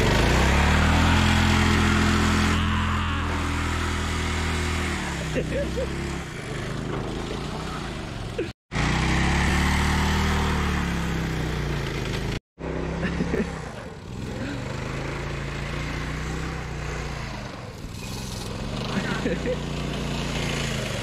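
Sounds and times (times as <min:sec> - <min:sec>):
small go-kart engine running: 0:00.0 - 0:21.0.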